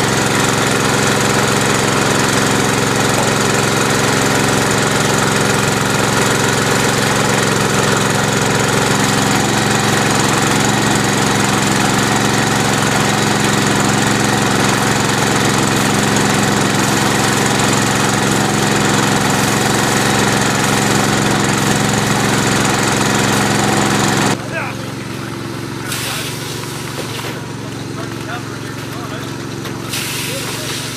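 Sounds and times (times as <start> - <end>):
small engine running: 0.0 - 30.9.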